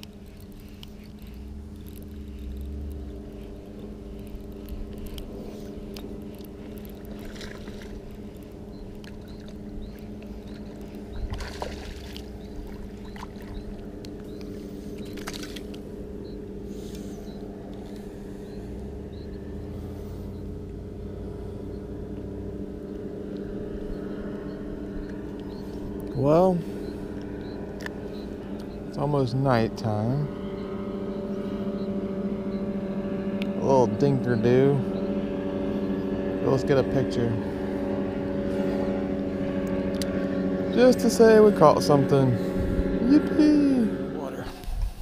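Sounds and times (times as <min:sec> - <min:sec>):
low hum of distant motor: 0:00.0 - 0:45.0.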